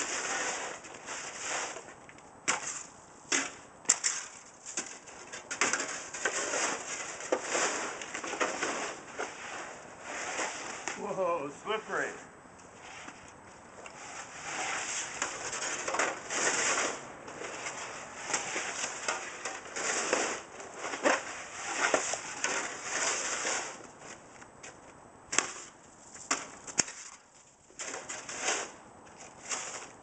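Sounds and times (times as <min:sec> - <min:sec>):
snow shovels scraping snow: 0:00.0 - 0:12.2, 0:12.8 - 0:13.3, 0:13.9 - 0:24.2, 0:27.8 - 0:30.0.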